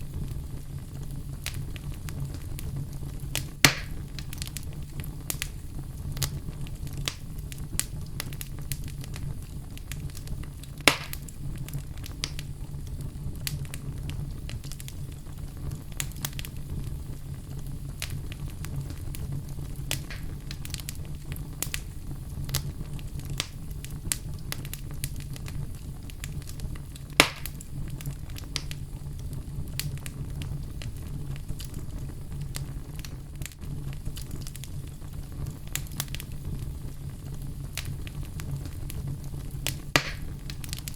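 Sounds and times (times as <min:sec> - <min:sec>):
fireplace fire crackling: 0:00.0 - 0:40.9
loud fire pops: 0:00.0 - 0:40.9.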